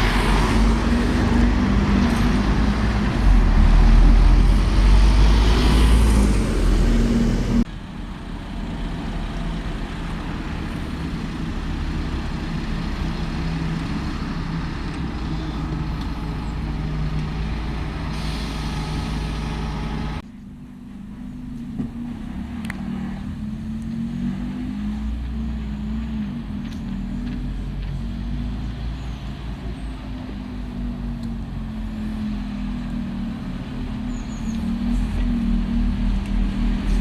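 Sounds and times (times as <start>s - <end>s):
heavy vehicle humming: 0.0s - 37.0s
vehicle humming: 0.0s - 37.0s.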